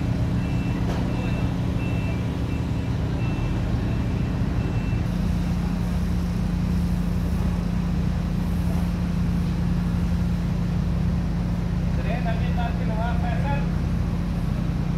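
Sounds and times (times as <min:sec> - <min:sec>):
drilling machinery droning: 0:00.0 - 0:14.9.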